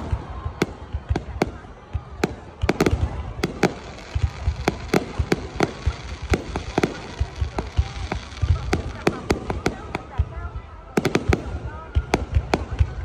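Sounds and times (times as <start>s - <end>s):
fireworks bursting bangs: 0.0s - 13.0s
low fireworks booms: 0.0s - 13.0s.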